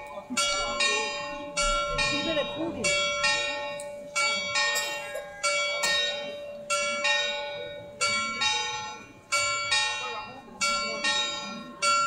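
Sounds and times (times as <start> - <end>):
clock bells striking: 0.0 - 12.0.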